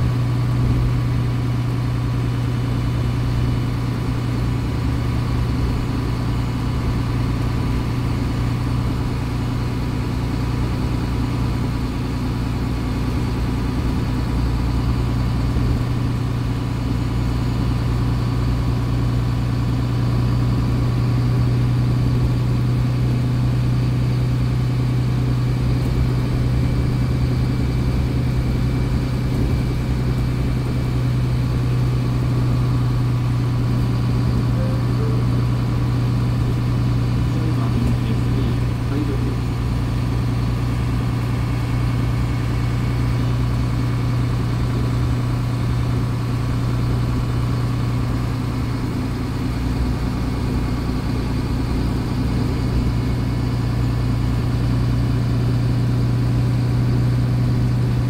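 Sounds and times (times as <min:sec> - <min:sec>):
bus diesel engine idling: 0:00.0 - 0:58.0.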